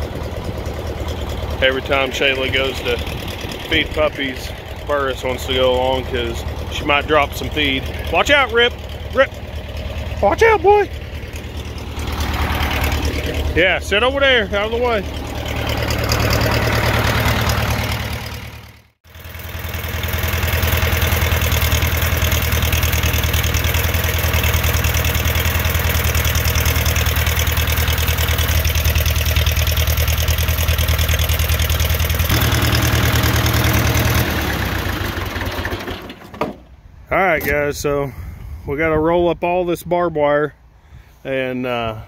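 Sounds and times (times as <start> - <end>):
tractor engine running: 0.0 - 39.8.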